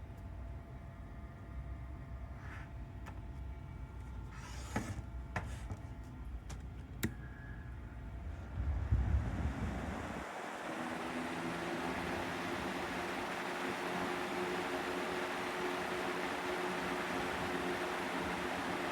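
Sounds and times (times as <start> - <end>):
fan rushing air with motor hum: 0.0 - 18.9.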